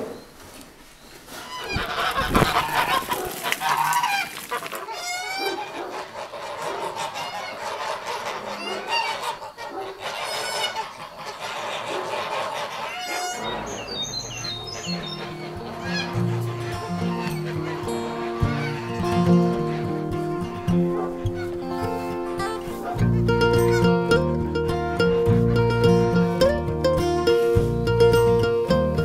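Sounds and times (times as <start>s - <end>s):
geese honking: 1.3s - 26.6s.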